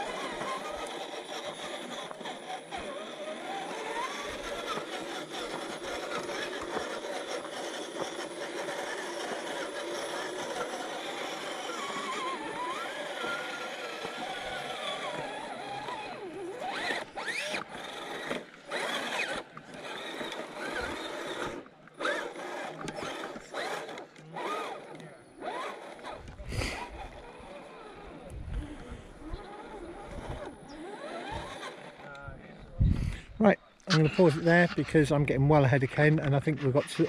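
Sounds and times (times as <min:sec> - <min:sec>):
electric toy car motor whining: 0:00.0 - 0:37.0.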